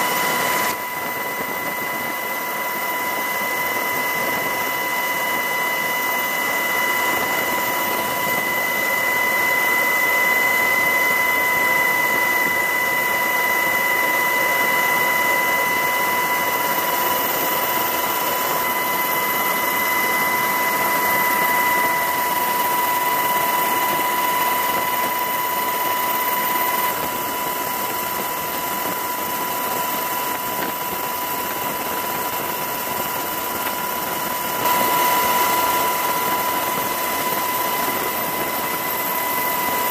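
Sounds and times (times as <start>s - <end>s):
helicopter turbine engines whining: 0.0s - 39.9s.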